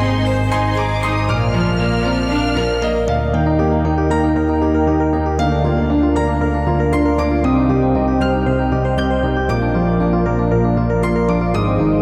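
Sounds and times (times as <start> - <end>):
calm new-age music: 0.0 - 12.0.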